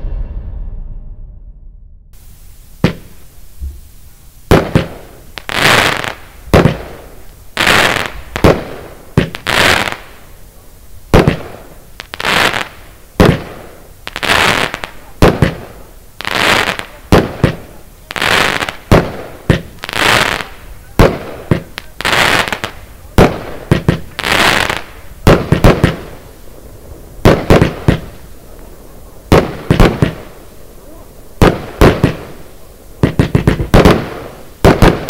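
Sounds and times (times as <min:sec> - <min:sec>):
firework shells bursting: 0:02.2 - 0:10.4, 0:11.0 - 0:35.0
firework launch cracks: 0:02.2 - 0:35.0.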